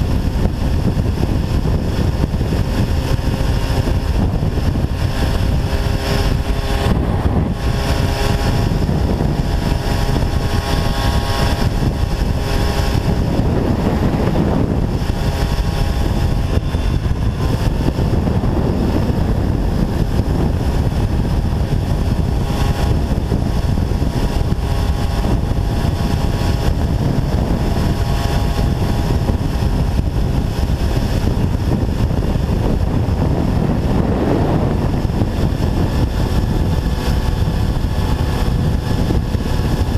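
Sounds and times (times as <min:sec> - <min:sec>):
two-stroke moped engine running: 0:00.0 - 0:39.9.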